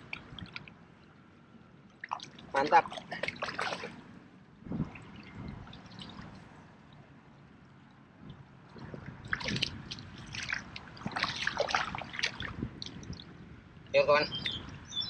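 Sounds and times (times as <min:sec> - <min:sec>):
water splashing and dripping: 0:00.0 - 0:04.0, 0:04.7 - 0:13.5.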